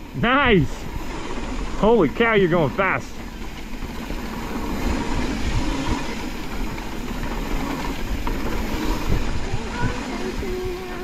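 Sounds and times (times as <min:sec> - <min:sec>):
bike tyres and wind rumble: 0:00.0 - 0:11.0
bikes rattling over bumps: 0:00.0 - 0:11.0.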